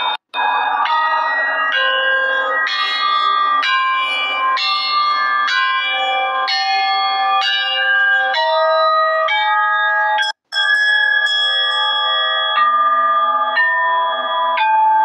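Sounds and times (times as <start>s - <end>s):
ringing bell tones: 0.0s - 15.0s.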